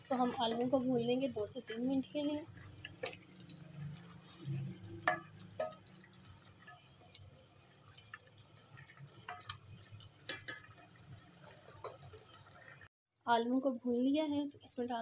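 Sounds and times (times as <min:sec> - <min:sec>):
food frying with wet pops: 0:00.0 - 0:12.9
spatula scraping a pot: 0:00.0 - 0:12.9.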